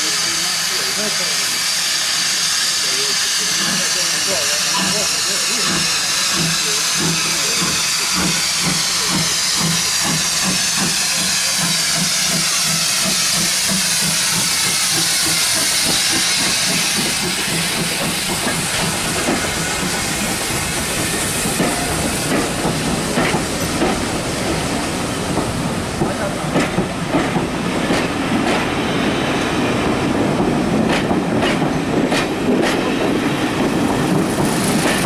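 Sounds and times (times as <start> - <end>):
steam engine hissing and chuffing: 0.0 - 35.0
train wheels clicking over rail joints: 2.8 - 35.0.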